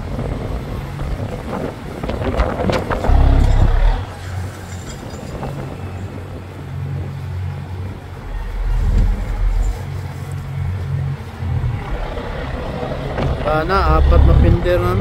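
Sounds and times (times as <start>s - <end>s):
ship machinery rumbling: 0.2s - 15.0s.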